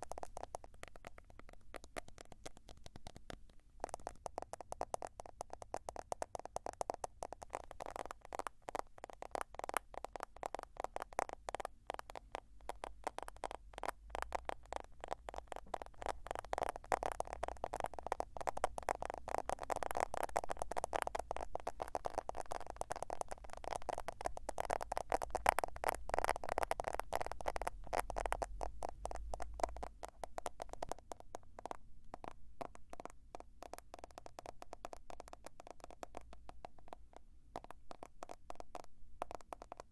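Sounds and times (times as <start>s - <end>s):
rapid tapping on smartphone: 0.0s - 39.9s.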